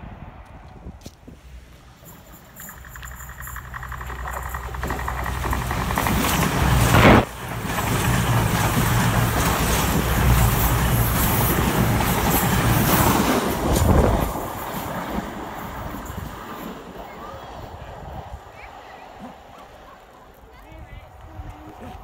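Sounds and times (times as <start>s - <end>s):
diesel train passing at speed: 0.0s - 21.8s.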